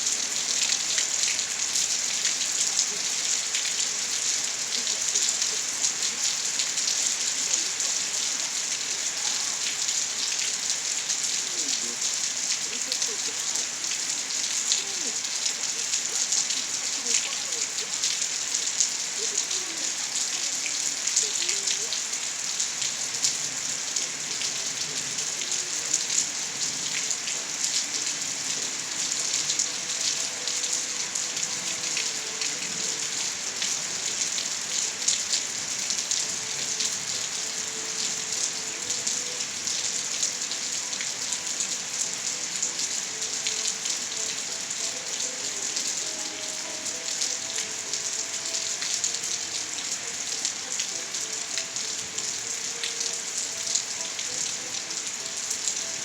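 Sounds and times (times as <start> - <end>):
rain on surfaces: 0.0 - 56.0.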